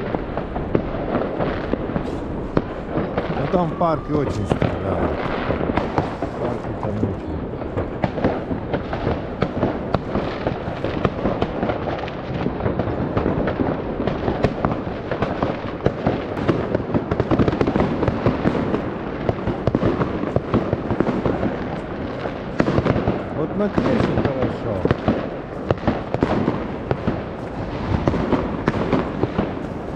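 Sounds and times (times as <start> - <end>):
fireworks crackling and banging: 0.0 - 29.9.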